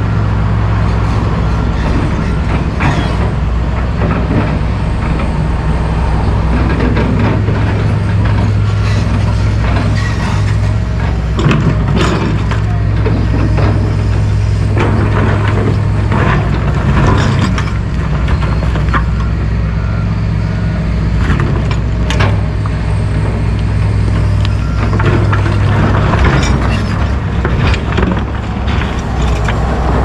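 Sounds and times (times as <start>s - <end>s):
excavator diesel engines droning: 0.0s - 30.0s.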